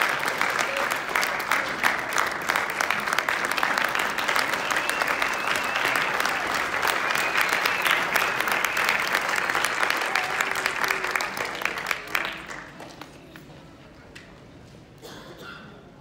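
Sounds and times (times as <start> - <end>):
audience clapping: 0.0 - 13.5.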